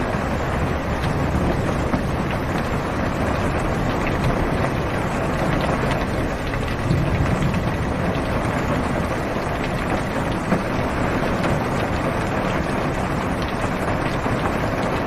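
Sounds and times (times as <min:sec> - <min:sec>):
heavy rain drumming on car roof: 0:00.0 - 0:15.0.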